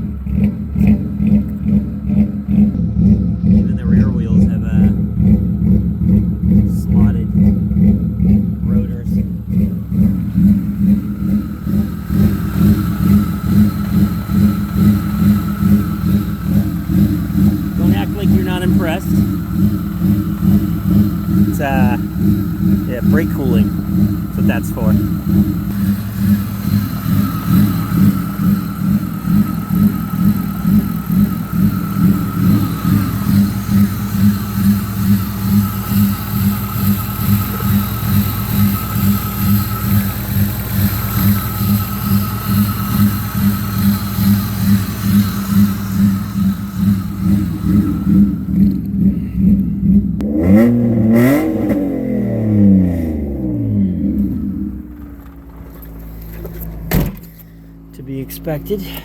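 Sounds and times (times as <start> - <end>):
car engine idling unevenly: 0.0 - 59.0.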